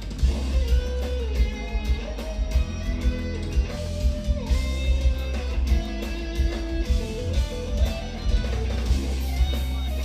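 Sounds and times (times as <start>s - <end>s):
bass and drums: 0.0s - 10.0s
electric guitars playing melodic lines: 0.0s - 10.0s.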